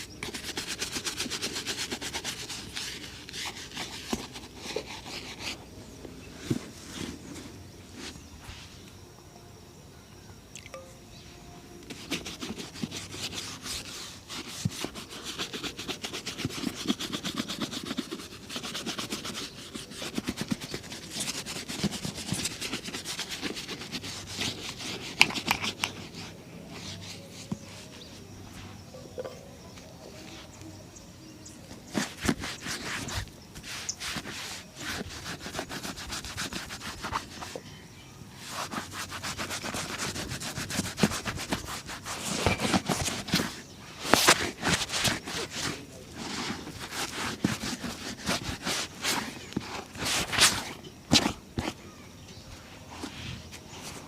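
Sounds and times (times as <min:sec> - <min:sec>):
shoe rubbing strokes: 0:00.0 - 0:08.9, 0:11.8 - 0:29.0, 0:29.6 - 0:37.7, 0:38.3 - 0:54.0.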